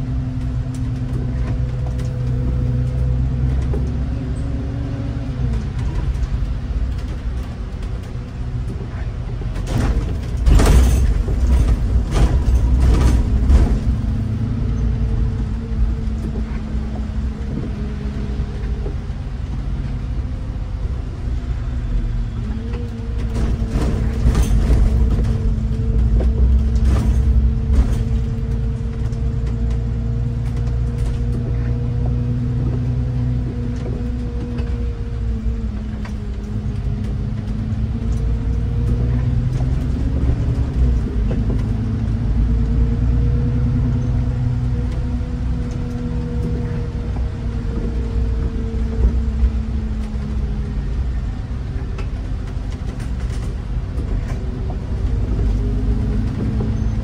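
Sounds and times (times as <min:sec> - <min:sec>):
bus engine and road rumble: 0:00.0 - 0:57.0
constant hum: 0:00.0 - 0:57.0
knocks and rattles: 0:05.4 - 0:19.6, 0:22.5 - 0:57.0.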